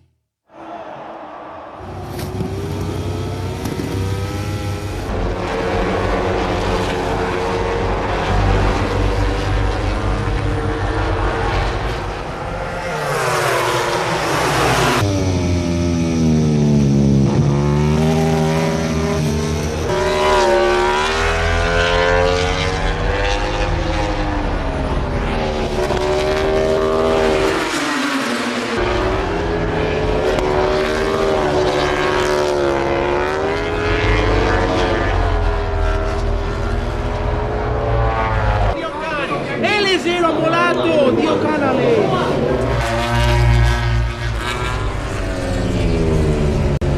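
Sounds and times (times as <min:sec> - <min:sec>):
racing motorcycle engines revving: 0:00.6 - 0:46.9.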